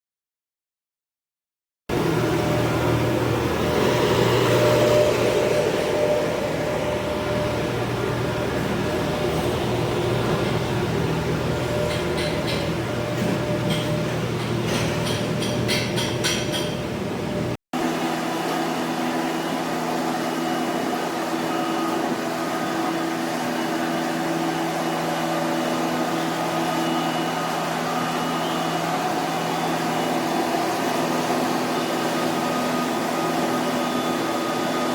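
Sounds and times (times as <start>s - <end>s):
steam boiler machine hum: 1.9s - 34.9s.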